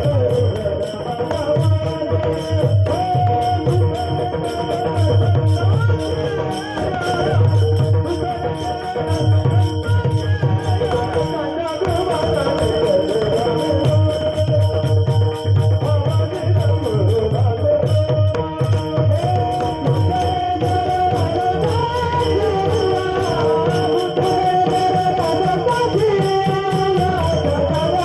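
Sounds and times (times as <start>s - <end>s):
hand cymbals jingling: 0.0s - 28.0s.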